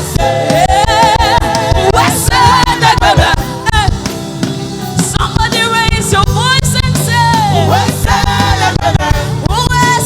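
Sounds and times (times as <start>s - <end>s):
gospel singing with vibrato: 0.0s - 10.0s
steady drum beat: 0.0s - 10.0s.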